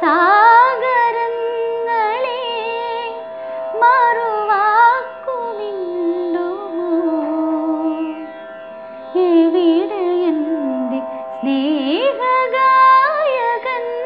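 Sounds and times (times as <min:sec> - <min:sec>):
woman singing: 0:00.0 - 0:08.3, 0:09.1 - 0:14.0.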